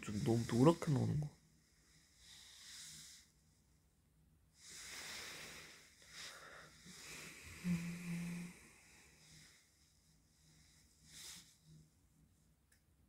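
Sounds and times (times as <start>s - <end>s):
faint breathing: 0.0s - 3.6s, 4.5s - 11.8s.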